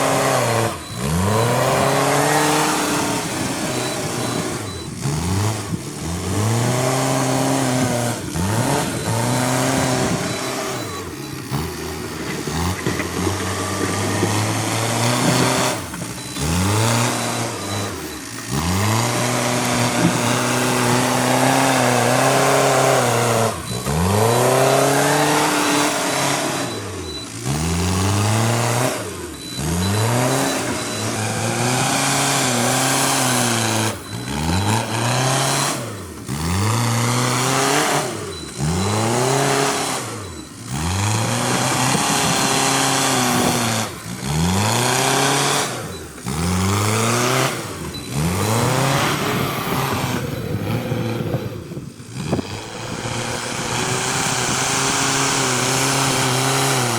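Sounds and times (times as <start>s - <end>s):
diesel engine revving: 0.0s - 56.9s.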